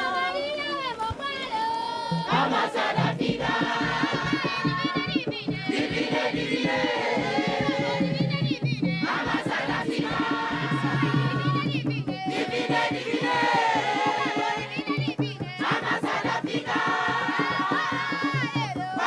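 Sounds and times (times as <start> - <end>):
group singing lively song: 0.0 - 19.0
fast steady beat: 2.1 - 19.0.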